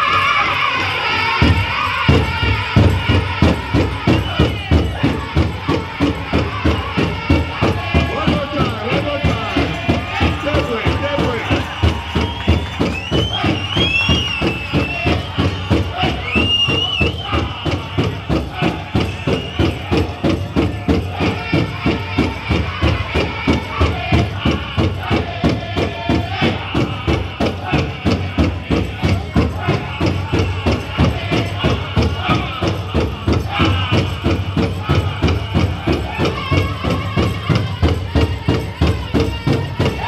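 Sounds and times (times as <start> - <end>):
high-pitched group singing: 0.0 - 40.0
leg bells jingling: 0.0 - 40.0
big drum beating: 1.4 - 40.0.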